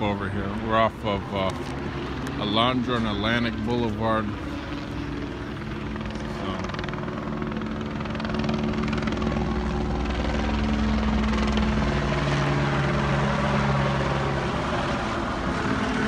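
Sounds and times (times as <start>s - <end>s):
helicopter flying low overhead: 0.0s - 16.0s.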